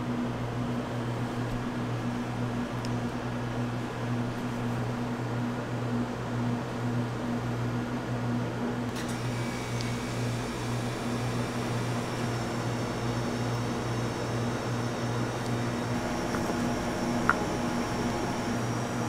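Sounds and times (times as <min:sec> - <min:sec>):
electric fan humming: 0:00.0 - 0:19.0.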